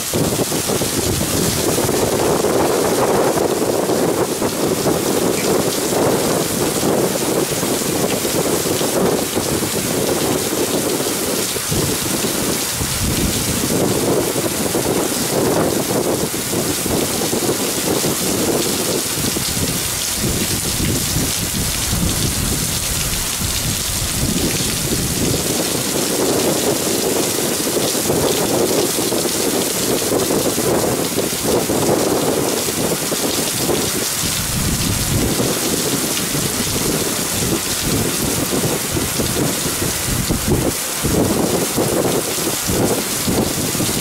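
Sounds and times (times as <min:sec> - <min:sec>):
heavy rain on a metal deck: 0:00.0 - 0:44.0.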